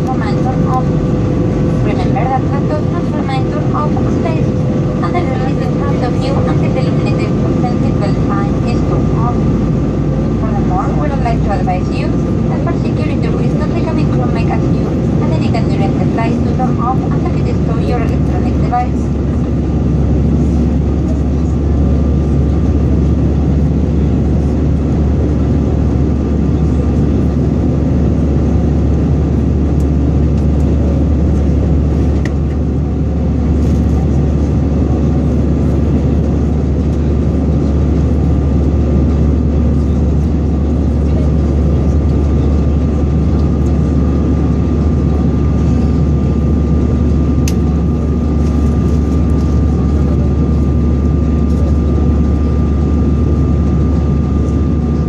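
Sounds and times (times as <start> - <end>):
airplane cabin engine roar: 0.0 - 55.0
thin steady whine: 0.0 - 55.0.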